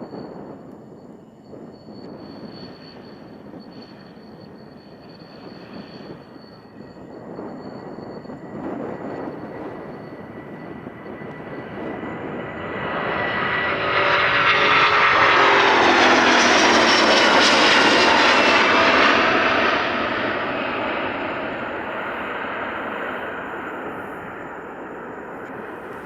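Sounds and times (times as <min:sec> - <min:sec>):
jet airliner taking off: 0:00.0 - 0:26.0.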